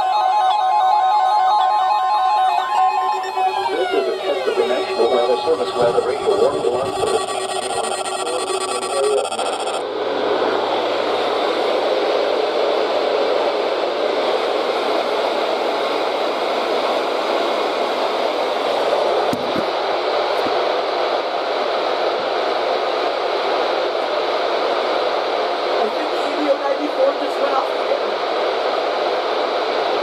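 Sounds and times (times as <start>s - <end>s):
radio static hiss: 2.8s - 30.0s.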